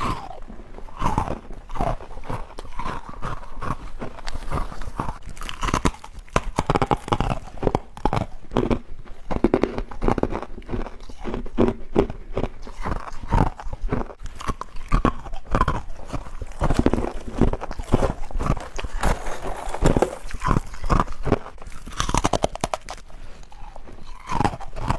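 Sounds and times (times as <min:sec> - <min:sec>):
crunching and chewing frost: 0:00.0 - 0:24.9.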